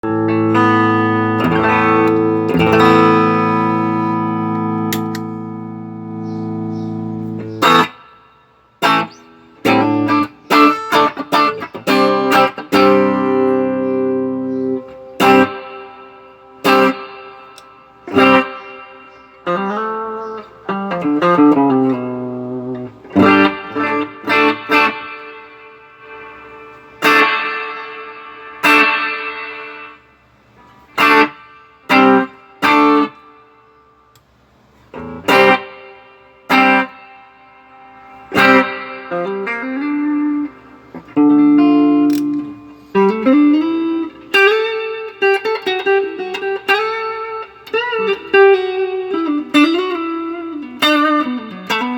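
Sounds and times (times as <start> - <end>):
electric guitar with reverb: 0.0 - 34.1, 34.8 - 51.9.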